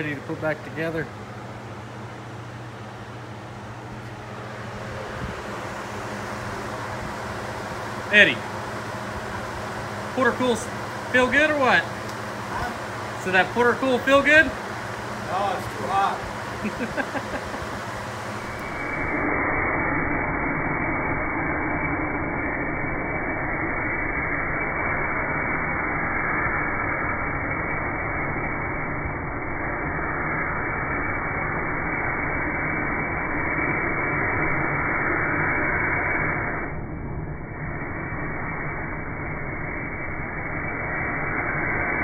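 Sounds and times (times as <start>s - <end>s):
cutting torch hissing: 4.1s - 36.7s, 37.6s - 42.0s.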